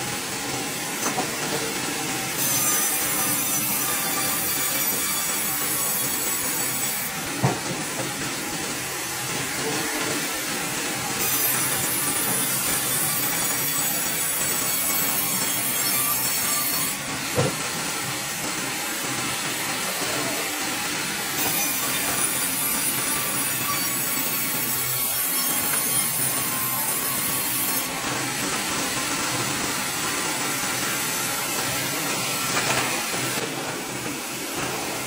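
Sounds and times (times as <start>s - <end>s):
band saw cutting log: 0.4s - 35.0s.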